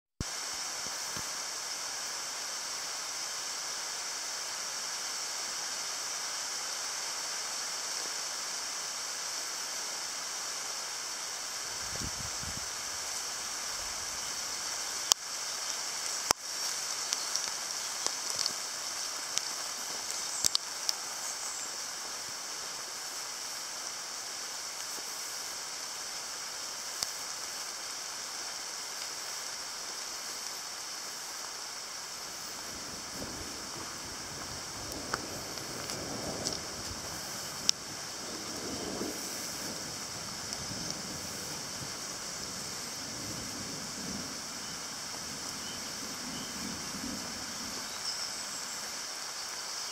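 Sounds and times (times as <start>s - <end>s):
high-pitched outdoor hiss: 0.0s - 49.9s.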